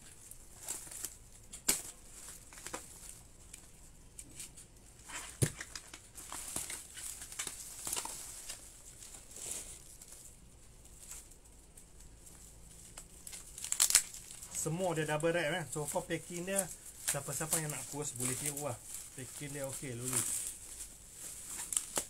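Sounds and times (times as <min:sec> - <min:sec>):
bubble wrap crinkling and rustling: 0:00.0 - 0:22.0.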